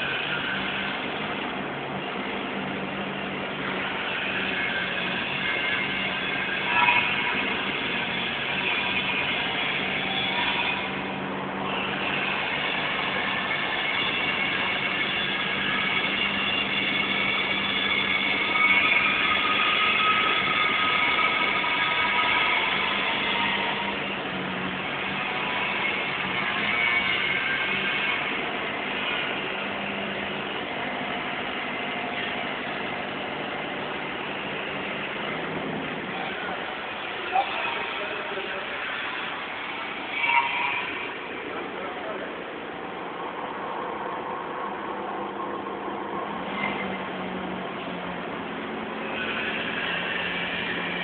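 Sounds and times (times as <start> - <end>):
forklift hydraulic hum and whine: 0.0 - 51.0.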